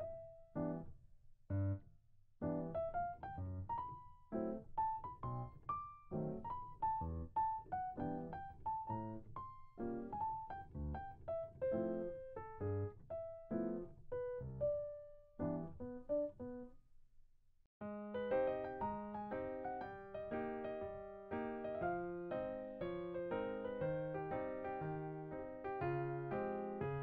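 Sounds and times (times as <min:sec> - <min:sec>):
background piano music: 0:00.0 - 0:01.8, 0:02.4 - 0:16.7, 0:17.8 - 0:27.0.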